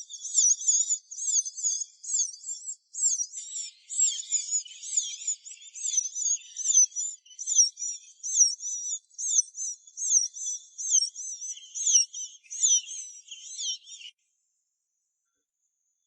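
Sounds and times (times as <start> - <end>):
small bird chirping: 0.0 - 14.2.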